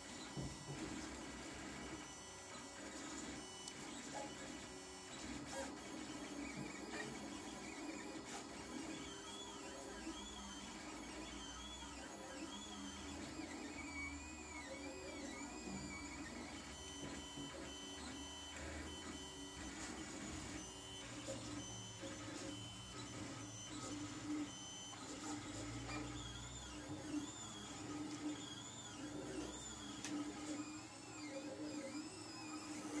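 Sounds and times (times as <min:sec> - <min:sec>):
stepper motors whining: 0:00.3 - 0:33.0.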